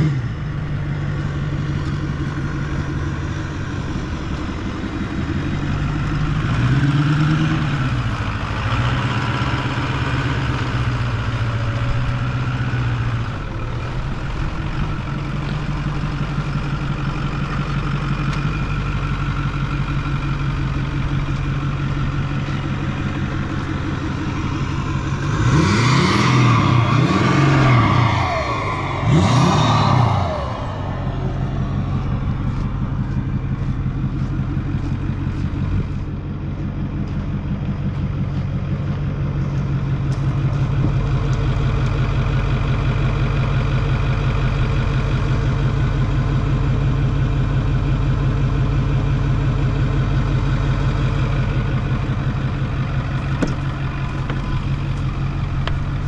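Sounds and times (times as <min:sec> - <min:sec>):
pickup engine idling and revving: 0:00.0 - 0:56.0.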